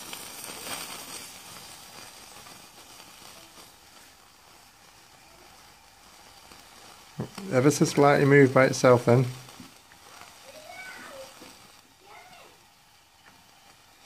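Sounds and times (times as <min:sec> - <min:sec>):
model steam engine hissing: 0:00.0 - 0:14.0.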